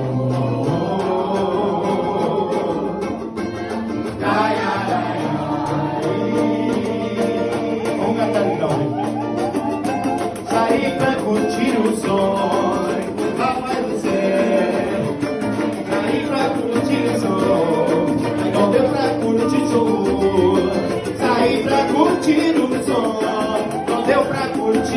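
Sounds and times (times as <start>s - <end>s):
samba drum ensemble: 0.0s - 24.9s
voices singing: 0.0s - 24.9s.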